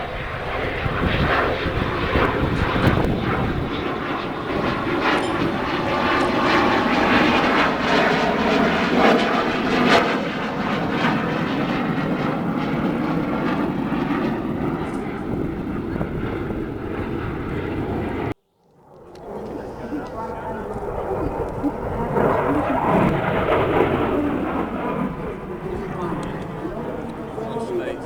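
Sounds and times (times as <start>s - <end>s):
aircraft flying by: 0.0s - 28.0s.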